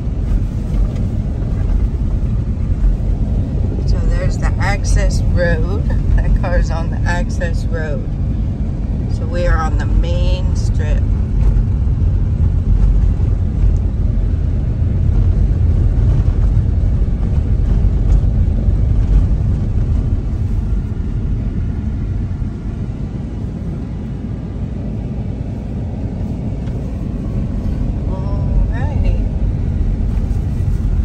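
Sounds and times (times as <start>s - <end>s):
car driving on dirt road: 0.0s - 31.0s.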